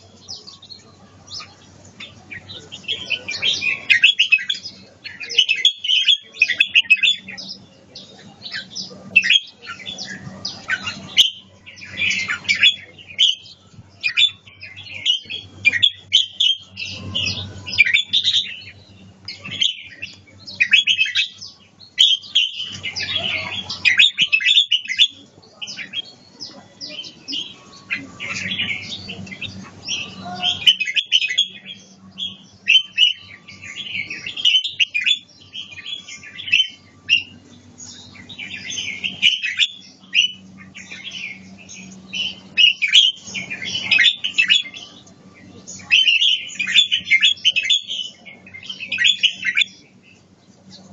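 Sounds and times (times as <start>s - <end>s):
bird singing warbling phrases: 0.0s - 50.9s.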